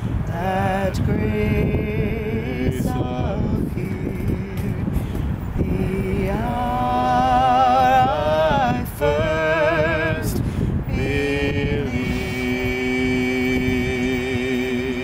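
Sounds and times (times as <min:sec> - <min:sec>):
wind rumbling on microphone: 0:00.0 - 0:15.0
man and woman singing: 0:00.2 - 0:05.0, 0:05.6 - 0:15.0.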